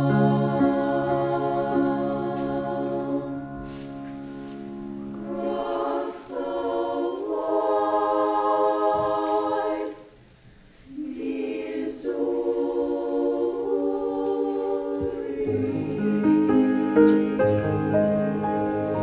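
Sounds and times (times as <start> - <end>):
women's choir singing chords: 0.0 - 3.8, 5.0 - 10.3, 10.9 - 19.0.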